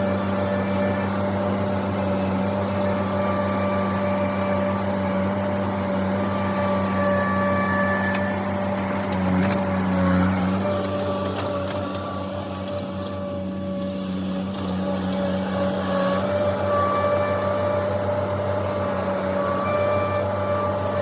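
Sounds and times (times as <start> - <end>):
farm machinery engine droning: 0.0 - 21.0.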